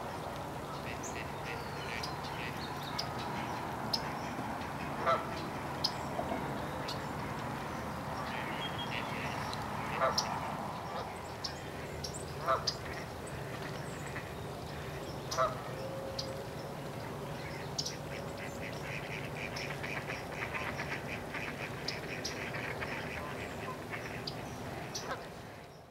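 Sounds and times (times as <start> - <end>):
waterfowl calling: 0.7 - 6.0, 8.2 - 11.6, 12.4 - 16.4, 17.3 - 25.5.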